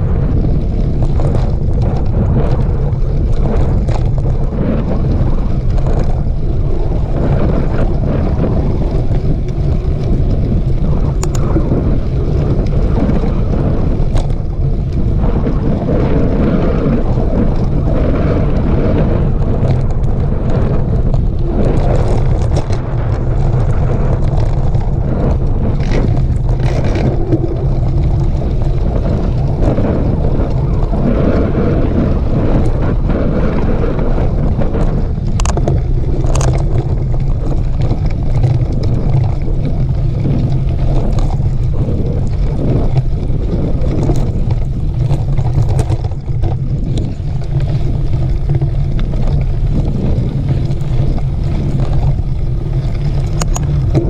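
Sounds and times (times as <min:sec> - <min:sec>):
bike clicks and rattles: 0:00.0 - 0:54.0
wind buffeting microphone: 0:00.0 - 0:54.0.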